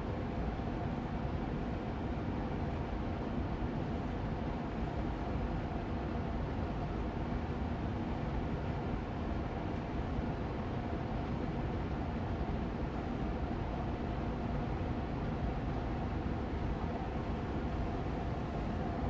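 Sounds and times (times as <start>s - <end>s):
air purifier fan rushing air: 0.0s - 19.0s.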